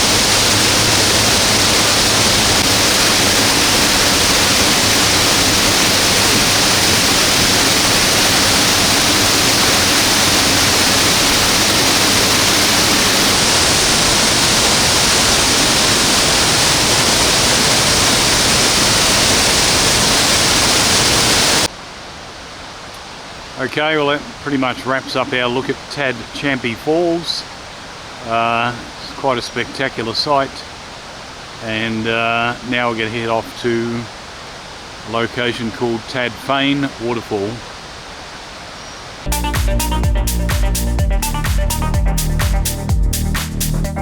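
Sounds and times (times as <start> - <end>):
waterfall rushing: 0.0 - 40.6.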